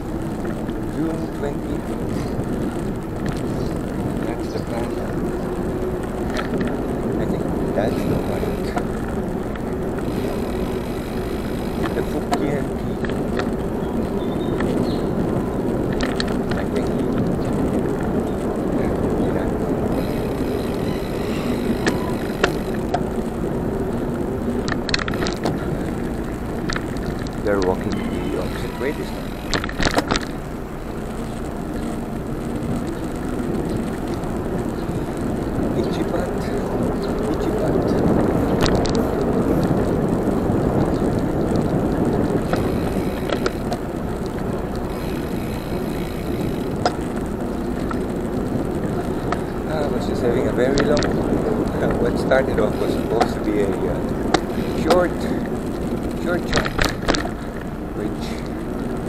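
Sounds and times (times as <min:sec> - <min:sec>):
bicycle tyres rolling on asphalt: 0:00.0 - 0:59.0
sharp rattles and clicks: 0:00.0 - 0:59.0
wind buffeting microphone: 0:00.0 - 0:59.0.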